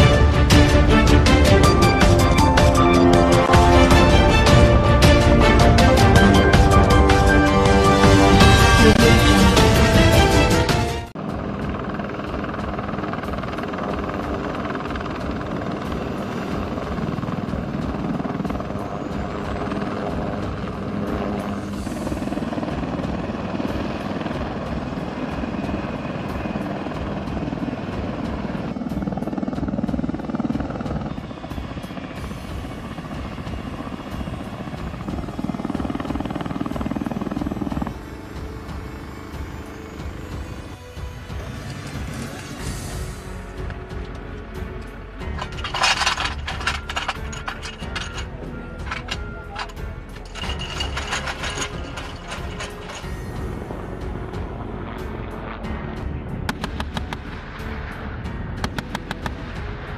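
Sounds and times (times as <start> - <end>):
helicopter rotors beating: 0.0 - 59.9
turbine engine whine: 0.0 - 59.9.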